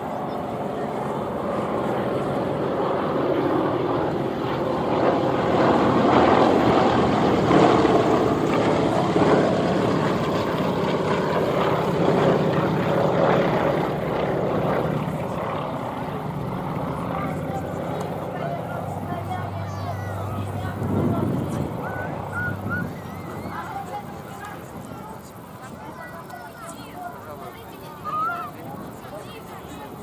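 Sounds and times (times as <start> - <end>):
propeller planes droning overhead: 0.0 - 30.0.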